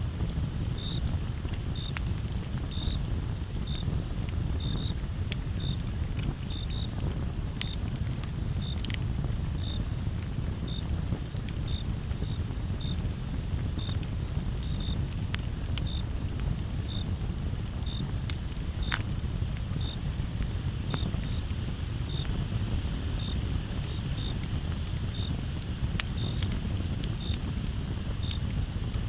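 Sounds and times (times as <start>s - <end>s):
wood fire crackling and popping: 0.0s - 29.0s
crickets chirping: 0.1s - 29.0s.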